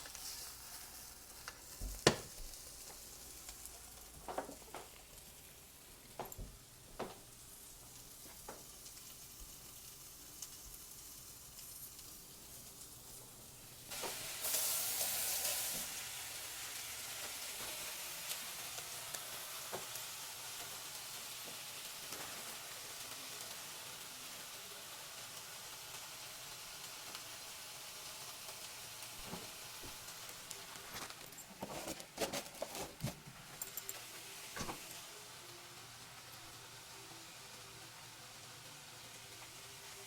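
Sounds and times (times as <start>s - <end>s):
food sizzling in a hot pan: 0.0s - 31.8s, 33.0s - 40.0s.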